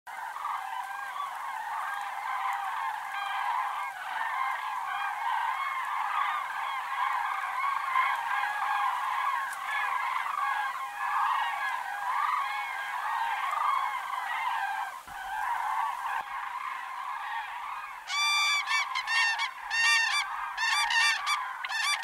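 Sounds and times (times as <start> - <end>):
flock of cranes calling: 0.1 - 22.0.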